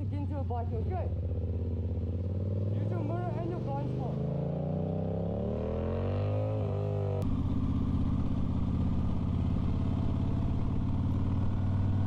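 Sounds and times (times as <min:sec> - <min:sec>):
motorcycle engine cruising: 0:00.0 - 0:12.0
sport motorcycle accelerating: 0:00.0 - 0:12.0.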